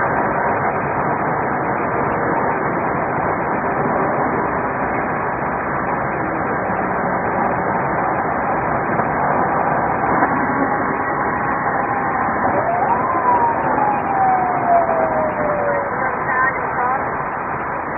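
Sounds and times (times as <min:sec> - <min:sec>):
car engine and road noise: 0:00.0 - 0:17.9.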